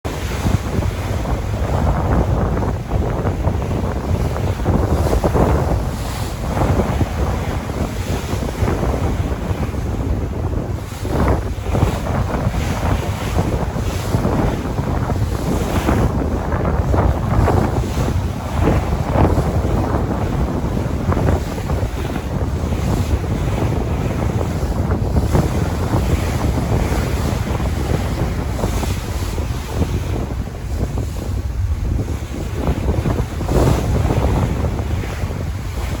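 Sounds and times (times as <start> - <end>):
wind buffeting microphone: 0.0 - 36.0
ocean surf: 0.1 - 36.0.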